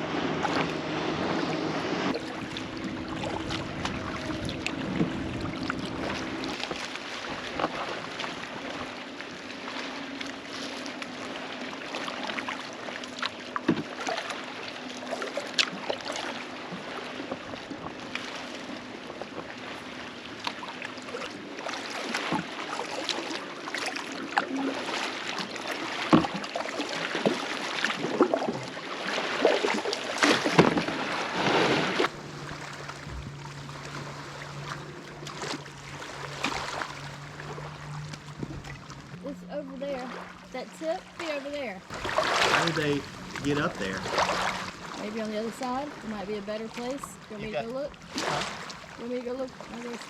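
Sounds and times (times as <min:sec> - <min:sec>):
low steady hum: 0:00.0 - 0:29.0, 0:29.6 - 0:50.0
paddle strokes splashing: 0:00.0 - 0:50.0
water lapping: 0:00.0 - 0:50.0.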